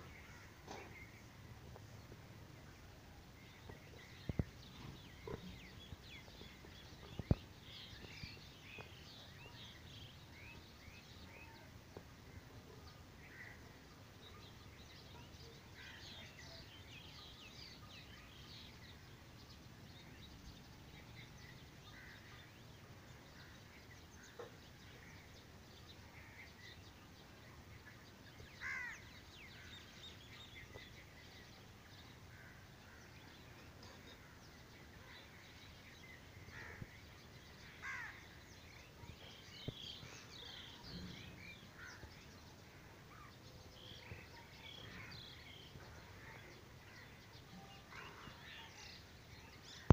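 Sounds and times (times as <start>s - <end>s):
birds chirping and calling: 2.8s - 49.9s.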